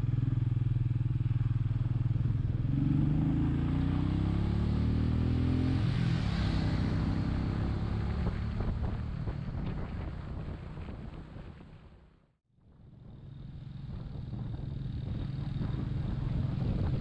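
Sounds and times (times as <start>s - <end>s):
motorcycle engine running: 0.0s - 12.1s, 12.7s - 17.0s
wind and road noise: 0.0s - 17.0s.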